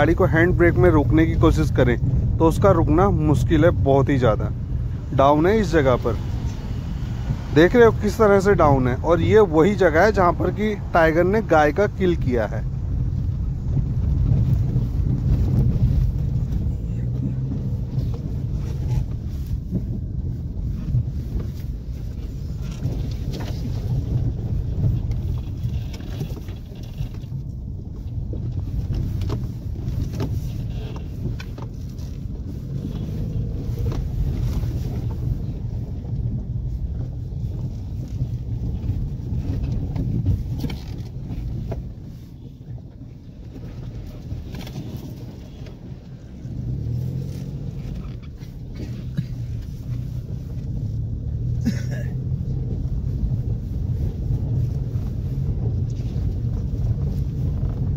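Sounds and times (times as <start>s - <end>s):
suspension knocks and clicks: 0.0s - 51.6s
car engine humming: 0.0s - 57.9s
stones under tyres: 0.0s - 57.9s.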